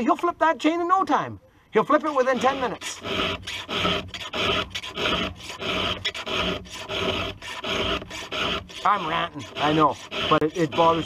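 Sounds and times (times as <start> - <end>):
hand file rasping on chain: 1.8 - 11.0.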